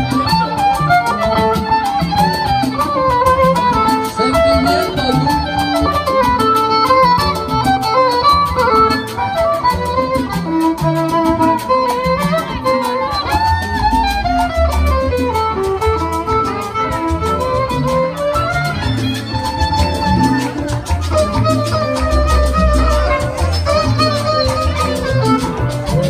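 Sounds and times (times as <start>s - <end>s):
latin dance band playing: 0.0s - 26.0s.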